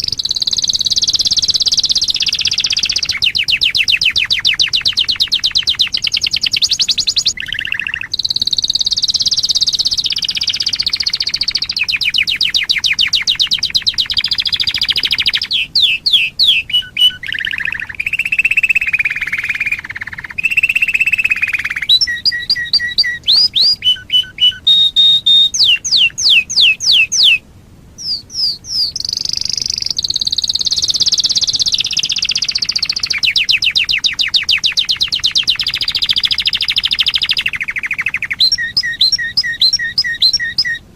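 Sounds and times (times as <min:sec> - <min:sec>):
canary singing trills: 0:00.0 - 0:27.4, 0:28.0 - 0:40.9.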